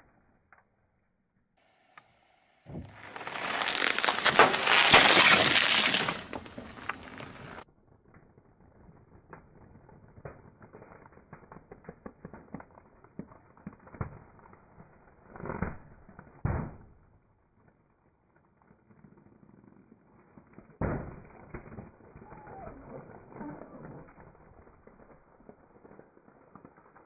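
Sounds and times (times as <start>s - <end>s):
balloon rubber creaking and crackling: 2.7s - 16.4s, 17.9s - 27.0s.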